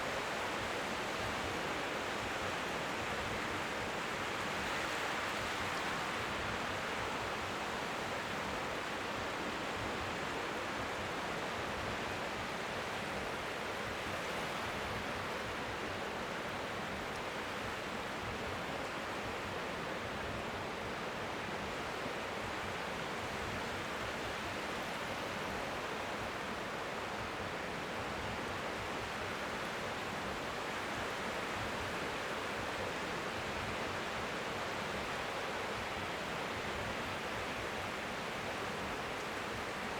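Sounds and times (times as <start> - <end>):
faint waves lapping on shore: 0.0 - 39.9.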